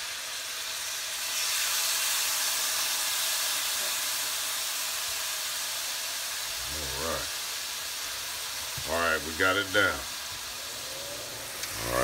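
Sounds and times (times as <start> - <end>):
steaks sizzling in hot oil: 0.0 - 12.0.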